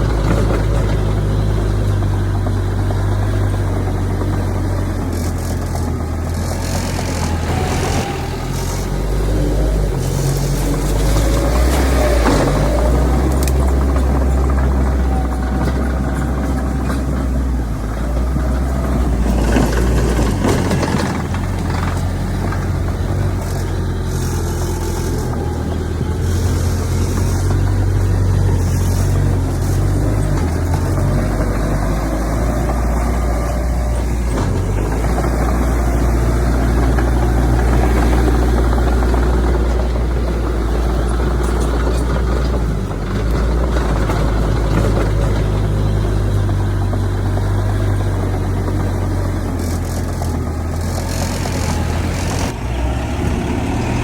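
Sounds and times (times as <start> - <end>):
heavy diesel engine humming: 0.0 - 54.0
machinery clattering: 0.0 - 54.0.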